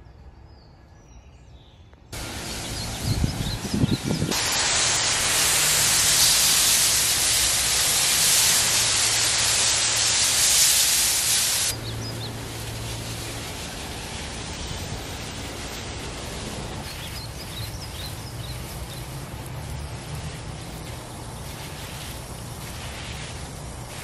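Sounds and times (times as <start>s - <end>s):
garden hose spraying water: 2.1s - 24.0s.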